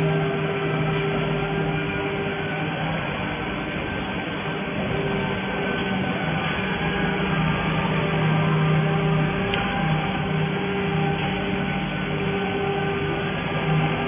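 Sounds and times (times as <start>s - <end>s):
laser welder humming and droning: 0.0s - 14.0s.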